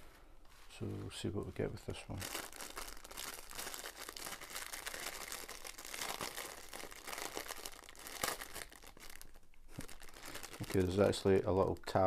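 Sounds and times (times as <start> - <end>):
plastic bag crinkling: 1.9 - 12.0.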